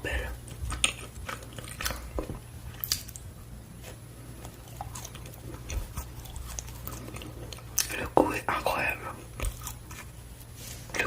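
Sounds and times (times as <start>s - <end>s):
low steady hum: 0.0s - 11.0s
chewing with mouth clicks: 0.3s - 8.2s, 8.8s - 10.4s.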